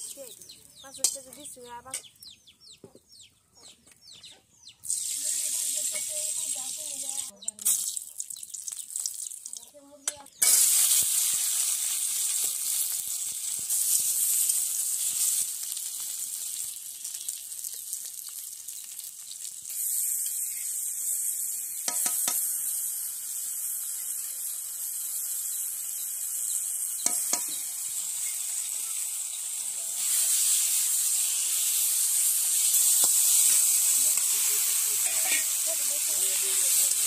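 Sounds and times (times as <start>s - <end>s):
potatoes sizzling in hot oil: 0.0s - 2.0s, 4.8s - 37.0s.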